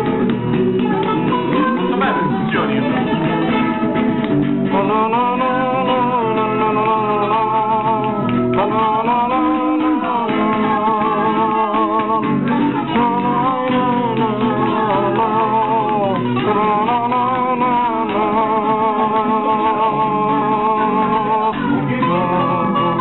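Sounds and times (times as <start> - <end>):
acoustic guitar strumming: 0.0 - 23.0
hand claps: 0.0 - 23.0.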